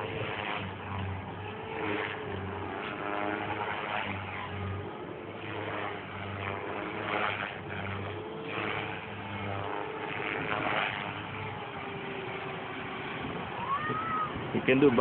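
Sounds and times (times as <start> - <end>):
rc helicopter motor whine: 0.0 - 15.0
rotor blades whooshing: 0.0 - 15.0.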